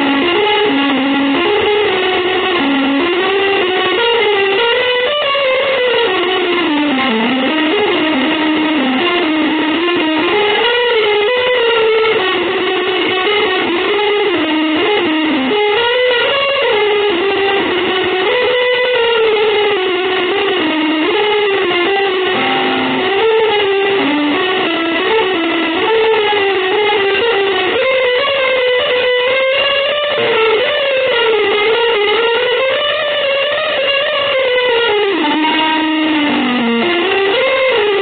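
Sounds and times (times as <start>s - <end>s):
electric guitar melody: 0.0s - 38.0s.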